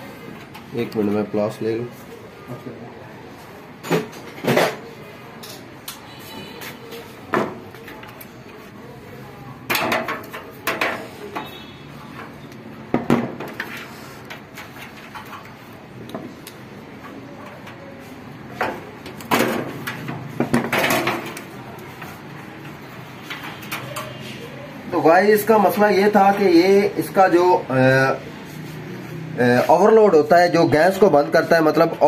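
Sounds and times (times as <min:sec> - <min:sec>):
faint steady background noise: 0:00.0 - 0:32.0.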